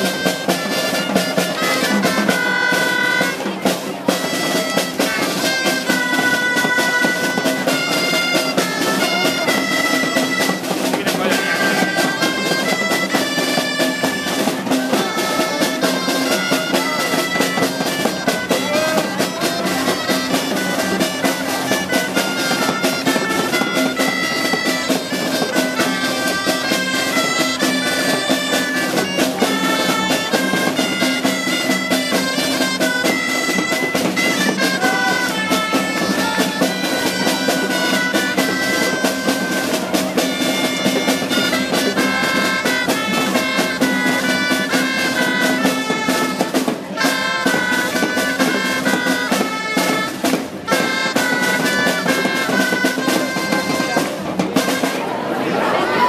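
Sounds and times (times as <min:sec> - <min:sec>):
drum beat: 0:00.0 - 0:55.0
reedy pipes folk melody: 0:00.0 - 0:56.0.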